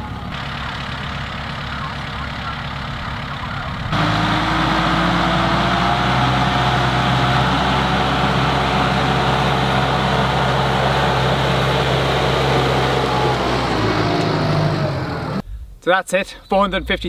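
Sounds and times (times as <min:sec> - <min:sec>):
tractor diesel engine: 0:00.0 - 0:15.4.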